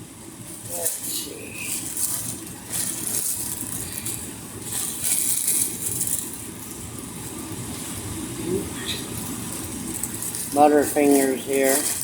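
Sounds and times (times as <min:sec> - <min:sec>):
plastic packaging crinkling: 0:00.6 - 0:07.4, 0:09.1 - 0:12.0.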